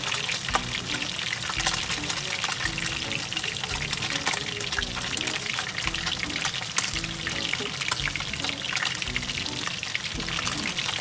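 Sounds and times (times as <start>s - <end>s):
fish frying with crackling: 0.0s - 11.0s.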